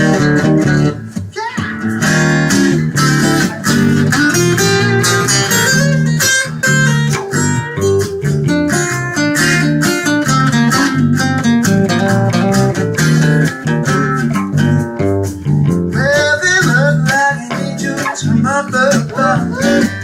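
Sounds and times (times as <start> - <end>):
guitar: 0.0 - 20.0
live band playing: 0.0 - 20.0.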